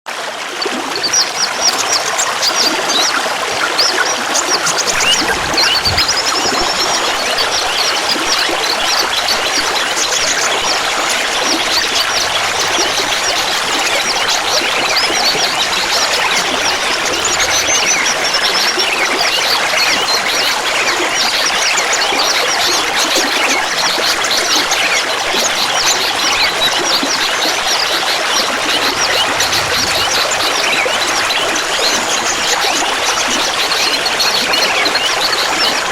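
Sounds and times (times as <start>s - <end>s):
water trickling and gurgling: 0.1s - 35.9s
bright water splashes: 0.2s - 35.9s.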